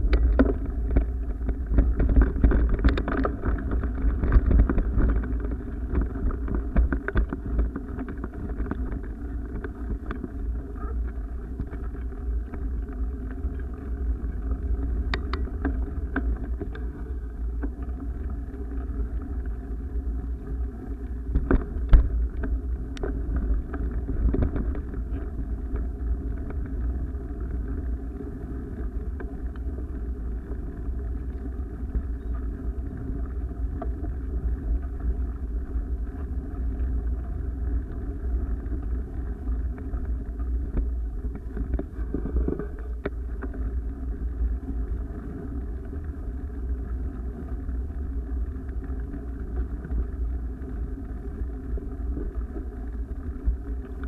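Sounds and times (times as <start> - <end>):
muffled wind rumble: 0.0 - 54.0.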